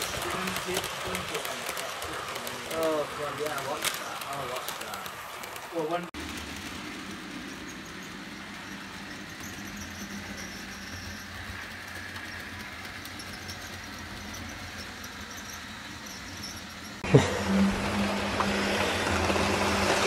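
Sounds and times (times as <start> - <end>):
model train motor hum: 0.0 - 20.0
wheels rolling over rails: 0.0 - 20.0.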